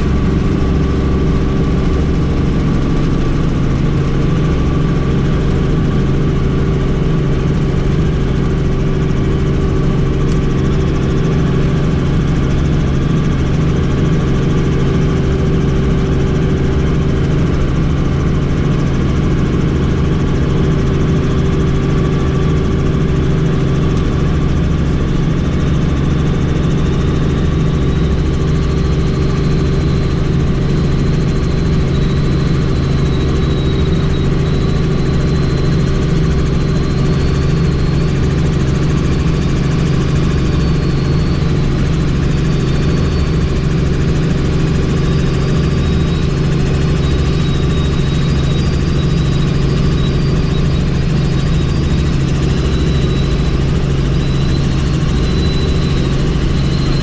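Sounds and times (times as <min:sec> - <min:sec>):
faint high whine: 0:00.0 - 0:57.0
helicopter rotor drone: 0:00.0 - 0:57.0.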